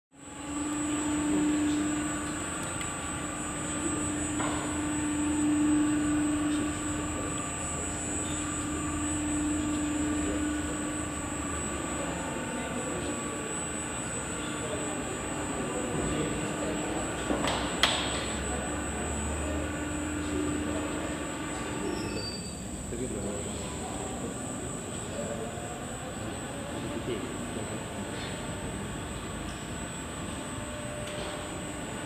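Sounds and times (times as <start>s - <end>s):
machinery low hum: 0.1s - 32.0s
constant high whine: 0.2s - 32.0s.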